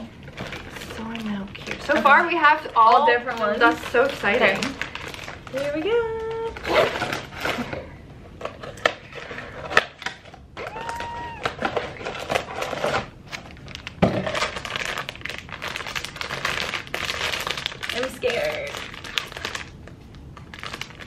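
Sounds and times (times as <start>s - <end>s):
cardboard and wrapping rustling: 0.0s - 19.7s, 20.4s - 21.0s.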